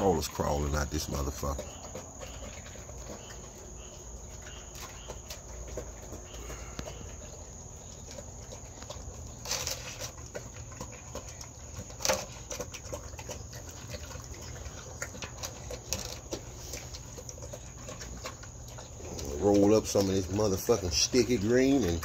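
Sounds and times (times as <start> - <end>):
dog crunching dry kibble: 0.0 - 22.0.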